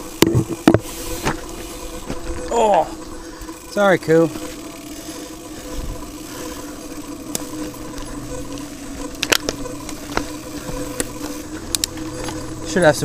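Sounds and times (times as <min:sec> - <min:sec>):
bike clicks and rattles: 0:00.0 - 0:13.0
mountain bike tyres droning: 0:00.0 - 0:13.0.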